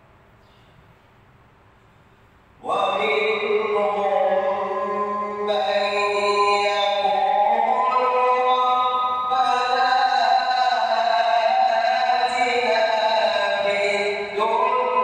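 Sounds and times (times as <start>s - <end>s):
man reciting melodically: 2.6s - 15.0s.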